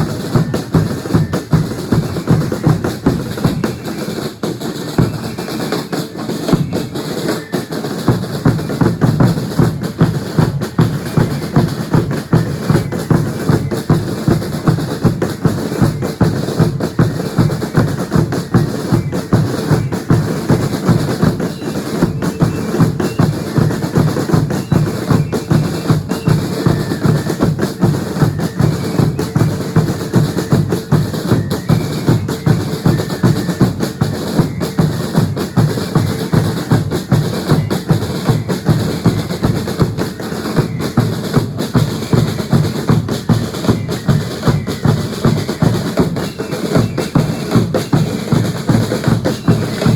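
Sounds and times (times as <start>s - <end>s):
drums beating steady rhythm: 0.0s - 49.9s.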